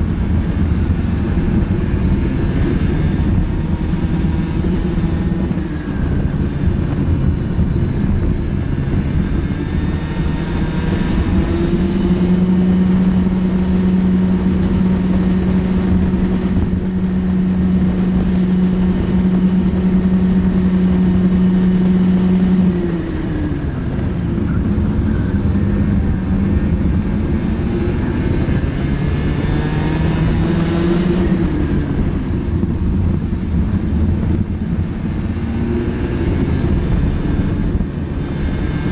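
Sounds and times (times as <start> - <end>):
kart engine buzzing: 0.0 - 38.9
noisy rumble: 0.0 - 38.9.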